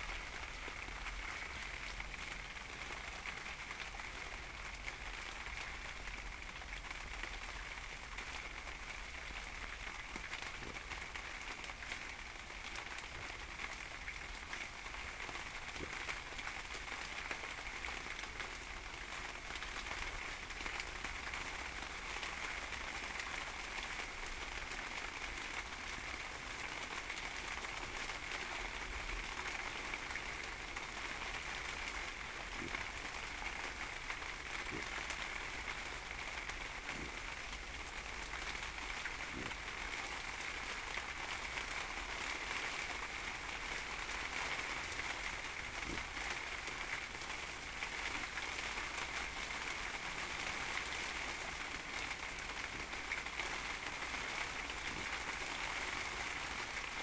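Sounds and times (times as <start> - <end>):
rain falling on jacket and stone: 0.0 - 57.0.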